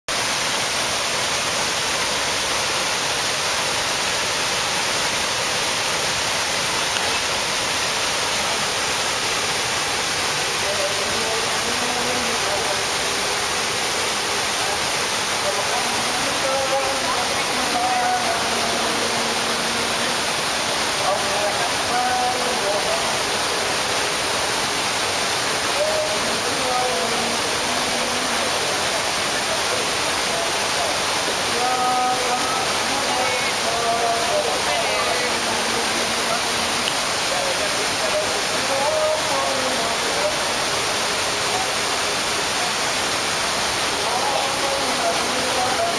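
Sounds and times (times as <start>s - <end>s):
fountain water splashing into pool: 0.1s - 45.9s.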